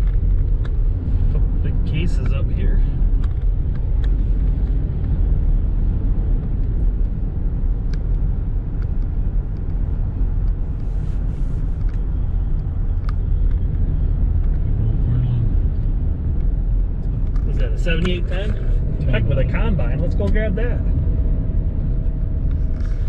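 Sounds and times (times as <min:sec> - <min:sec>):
vehicle interior road drone: 0:00.0 - 0:23.0.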